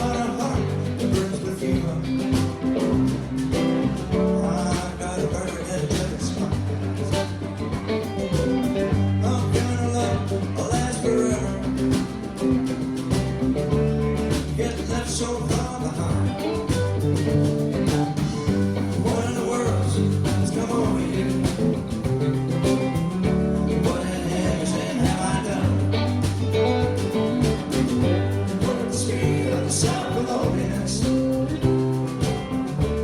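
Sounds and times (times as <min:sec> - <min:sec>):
band playing country-rock: 0:00.0 - 0:33.0.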